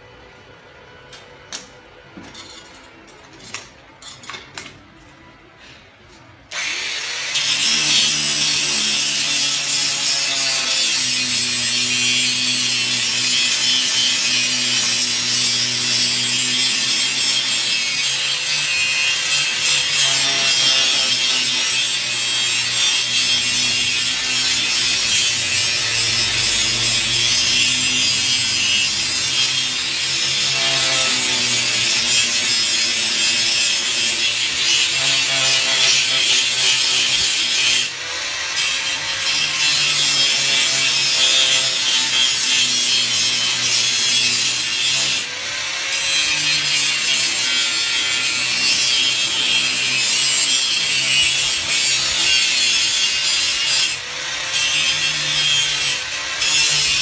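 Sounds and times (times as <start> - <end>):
angle grinder grinding steel: 6.5 - 57.0.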